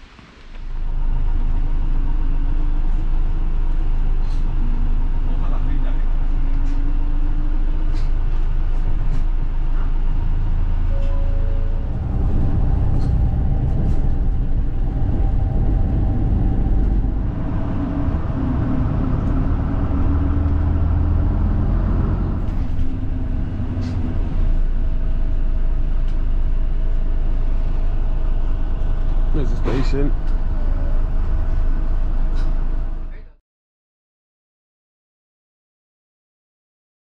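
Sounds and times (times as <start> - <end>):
bus engine rumble: 0.0 - 33.4.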